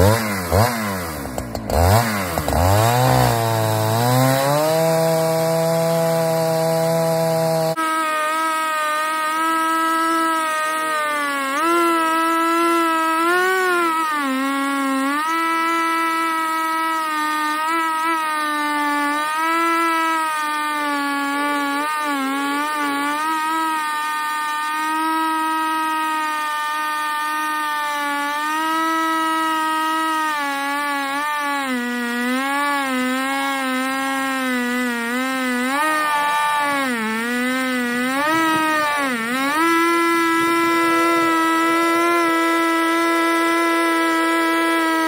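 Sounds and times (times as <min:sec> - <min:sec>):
chainsaw cutting log: 0:00.0 - 0:45.0.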